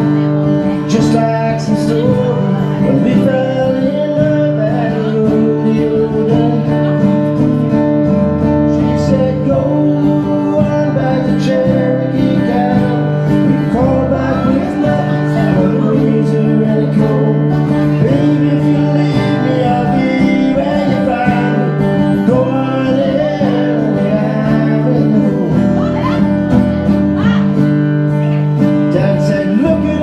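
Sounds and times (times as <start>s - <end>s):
person singing: 0.0s - 7.3s, 8.6s - 30.0s
acoustic guitar strumming: 0.0s - 30.0s.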